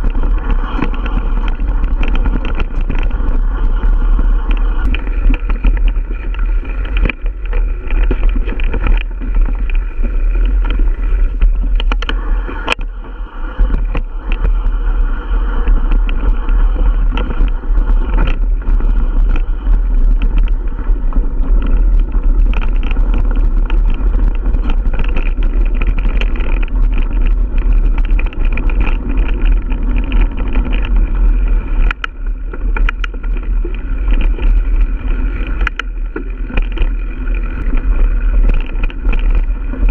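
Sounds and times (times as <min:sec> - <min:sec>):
bike clicking and knocking: 0:00.0 - 0:13.0, 0:15.6 - 0:39.9
wind rumble on microphone: 0:00.0 - 0:39.9.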